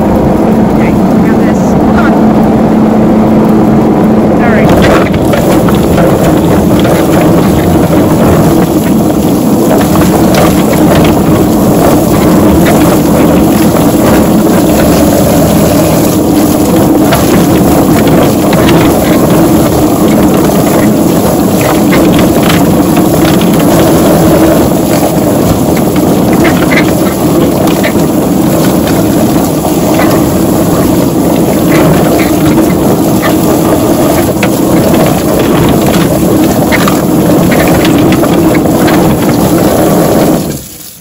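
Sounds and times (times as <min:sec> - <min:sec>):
drum plucker running: 0:00.0 - 0:41.0
hose water spray hissing: 0:05.1 - 0:41.0.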